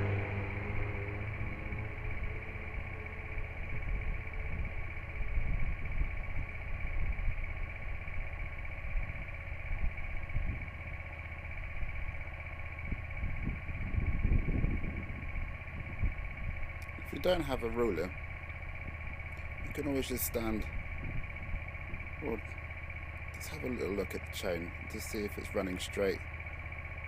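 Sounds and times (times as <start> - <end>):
low rumbles: 0.0 - 27.0
motorcycle engine ticking over: 0.0 - 27.0.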